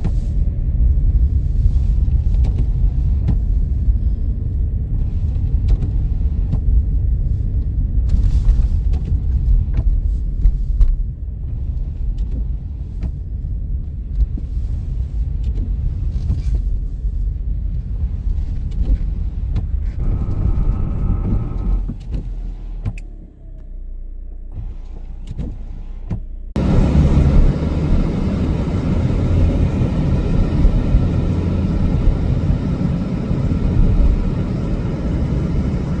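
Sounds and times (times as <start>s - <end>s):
road vehicles rumbling: 0.0s - 36.0s
steady rushing rumble: 0.0s - 36.0s.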